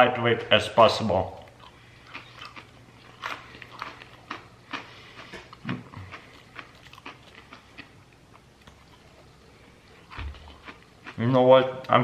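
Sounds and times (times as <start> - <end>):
crunching crisp fruit pieces: 1.4 - 12.0.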